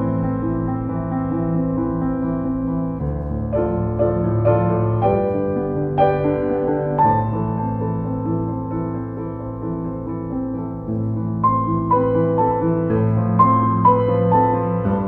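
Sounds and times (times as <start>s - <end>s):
slow calm piano piece: 0.0s - 15.0s.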